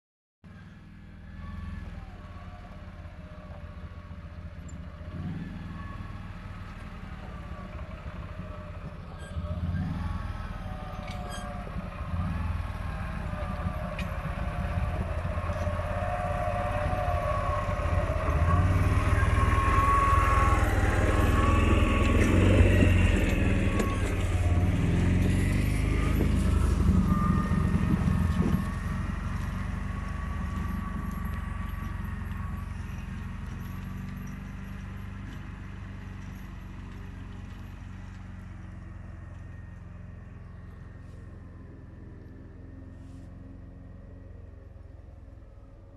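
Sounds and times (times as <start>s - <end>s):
atv engine running: 2.1s - 45.9s.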